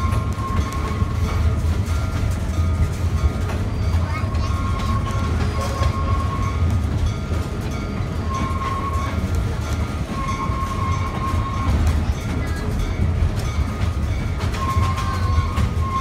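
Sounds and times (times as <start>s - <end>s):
train cars rumbling on rails: 0.0s - 16.0s.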